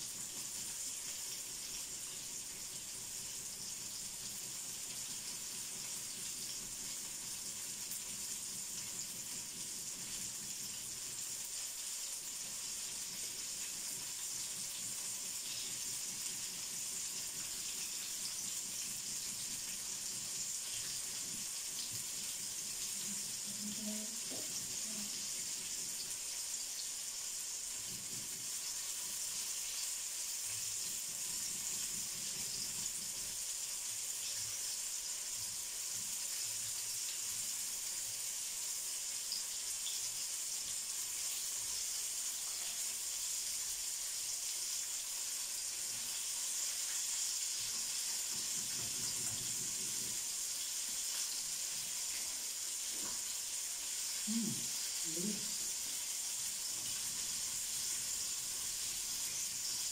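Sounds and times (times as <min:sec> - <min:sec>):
chicken deep-frying in hot oil: 0:00.0 - 0:59.9.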